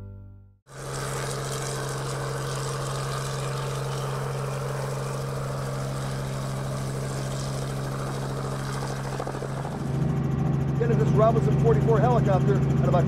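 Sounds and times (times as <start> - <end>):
helicopter engine and rotors: 0.7 - 13.0.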